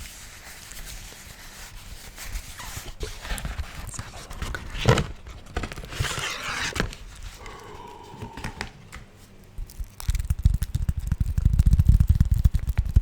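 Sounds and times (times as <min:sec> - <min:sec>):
wax food wrap crinkling: 0:00.0 - 0:13.0.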